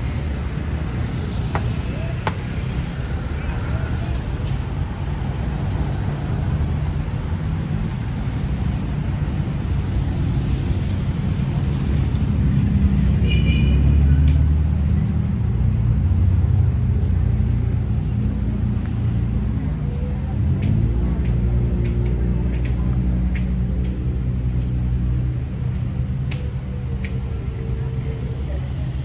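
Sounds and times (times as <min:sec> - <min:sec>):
passing vehicles rumbling: 0:00.0 - 0:29.0.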